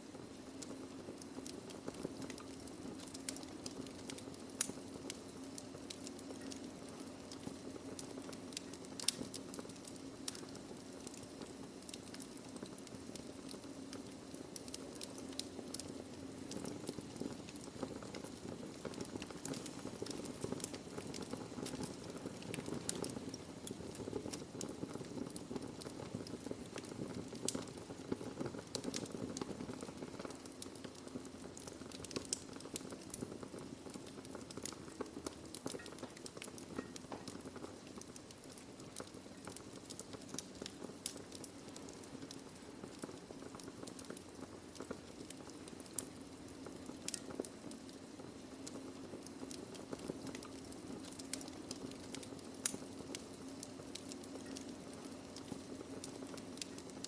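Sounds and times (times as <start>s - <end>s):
burning logs crackling and popping: 0.0s - 57.0s
flames rushing: 1.4s - 47.8s.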